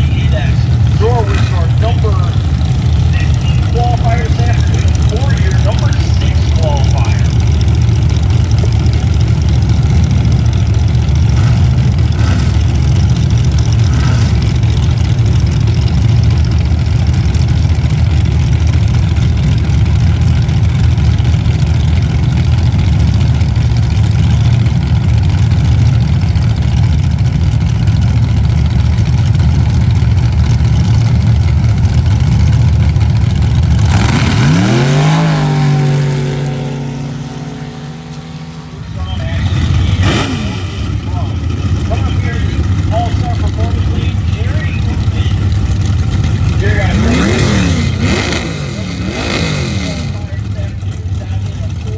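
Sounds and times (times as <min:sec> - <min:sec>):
road and wind noise: 0:00.0 - 0:51.9
vehicle engine rumbling: 0:00.0 - 0:51.9.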